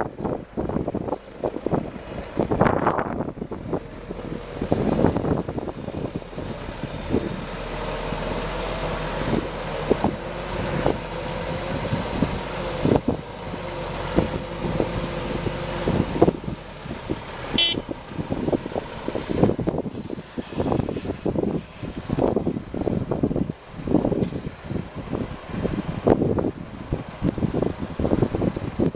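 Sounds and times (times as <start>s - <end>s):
truck engine whine: 0.0s - 28.9s
wind on microphone: 0.0s - 28.9s.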